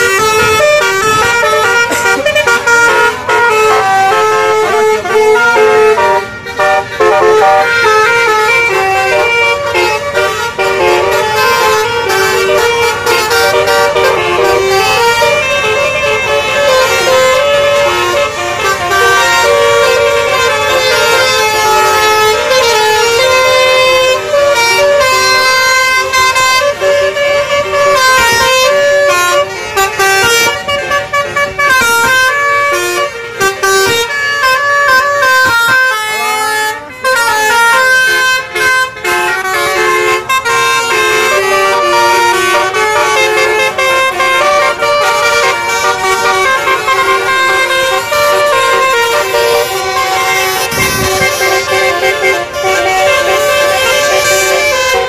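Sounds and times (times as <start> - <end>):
bus horns playing melody: 0.0 - 55.0.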